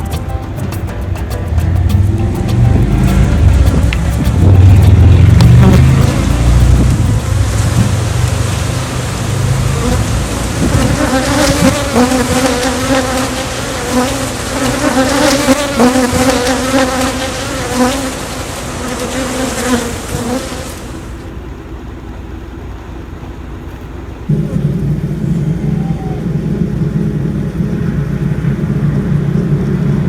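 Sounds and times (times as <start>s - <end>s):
honey bees buzzing: 0.0s - 23.3s, 24.0s - 30.0s.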